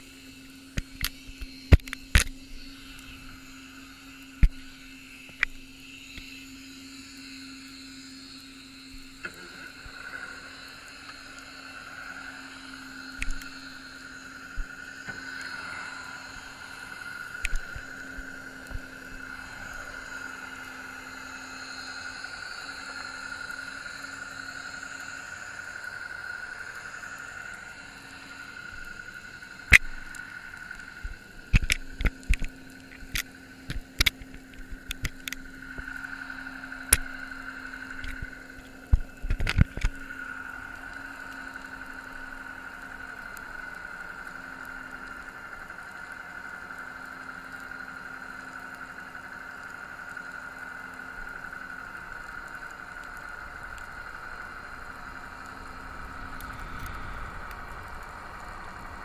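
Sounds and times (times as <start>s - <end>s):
high whine: 0.0s - 59.0s
underwater hum: 0.0s - 59.0s.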